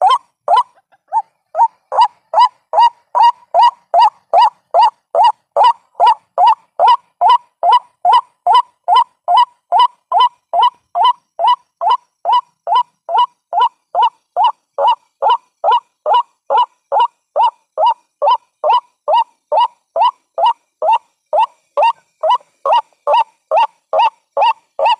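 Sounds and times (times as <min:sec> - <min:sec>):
waterhen calling: 0:00.0 - 0:24.9.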